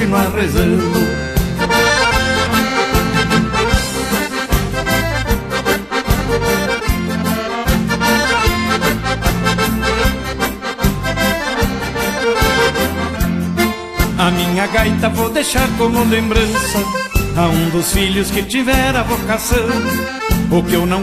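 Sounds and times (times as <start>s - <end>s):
accordion playing: 0.0s - 21.0s
bass and drums: 0.0s - 21.0s.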